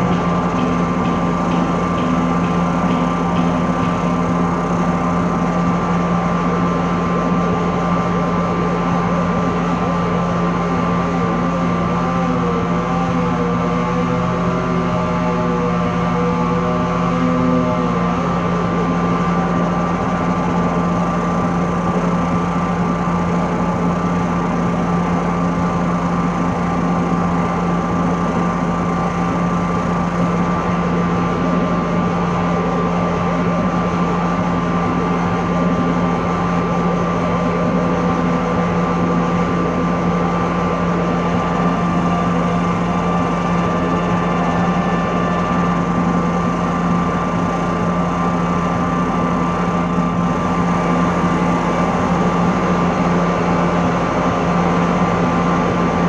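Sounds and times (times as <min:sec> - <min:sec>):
low and high droning tones: 0:00.0 - 0:56.0.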